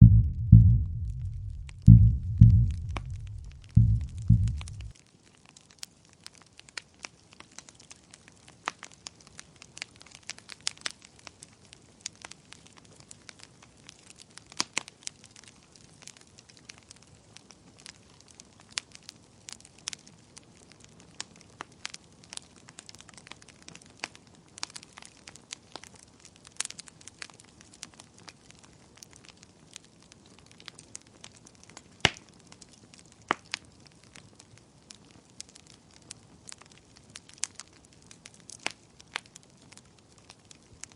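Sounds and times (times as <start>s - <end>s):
campfire crackling and popping: 0.9s - 1.8s, 2.8s - 40.9s.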